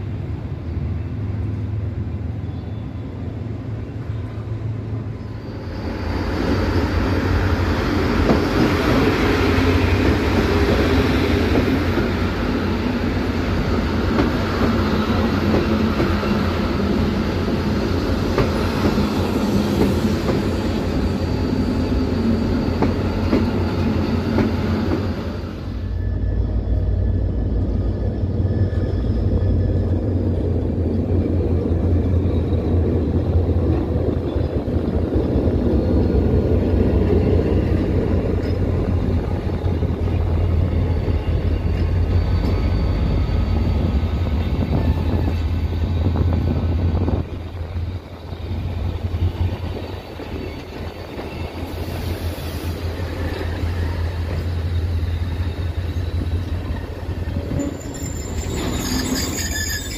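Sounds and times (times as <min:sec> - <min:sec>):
train cars rumbling and rattling: 0:00.0 - 0:59.9.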